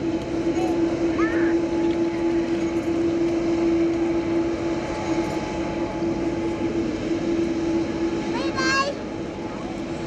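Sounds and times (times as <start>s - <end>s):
jet engine rumble: 0.0s - 10.0s
jet engine whine: 0.0s - 10.0s.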